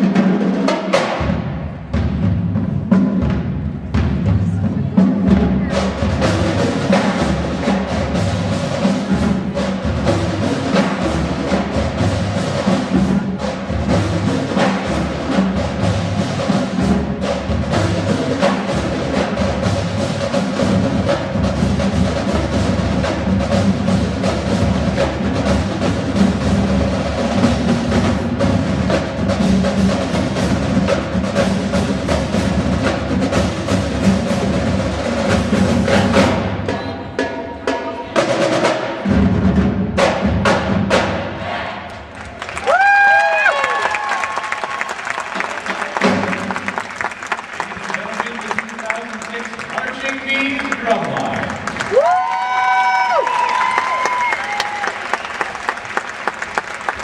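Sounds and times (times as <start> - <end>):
marching band drumming: 0.0 - 57.0.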